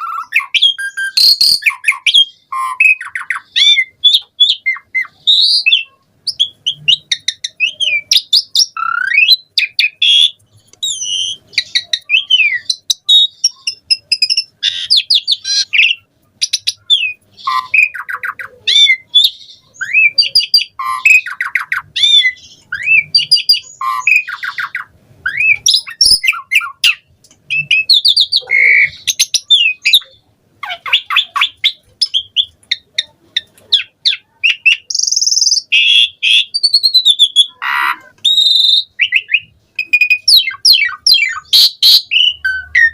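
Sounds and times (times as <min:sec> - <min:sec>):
starling singing: 0:00.0 - 0:42.9.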